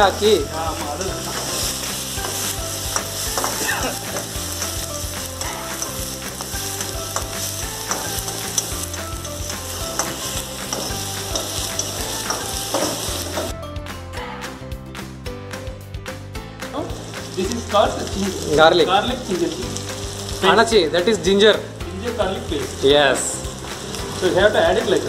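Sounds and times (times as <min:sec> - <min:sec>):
onions sizzling in hot oil: 0:00.0 - 0:13.6, 0:16.6 - 0:25.0.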